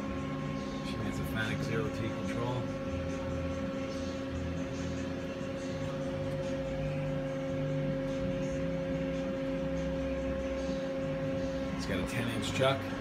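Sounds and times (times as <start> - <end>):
machine hum: 0.0 - 13.0
mid-pitched whine: 0.0 - 13.0.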